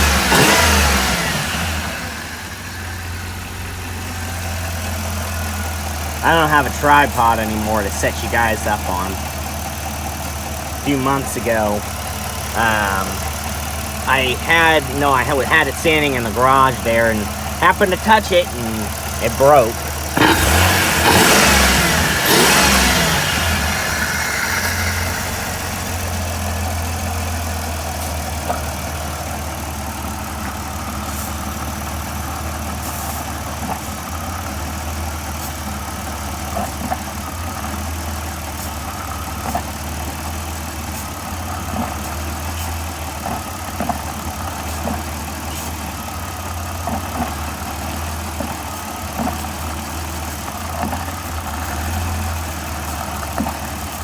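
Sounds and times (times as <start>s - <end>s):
van engine idling: 0.0s - 54.0s.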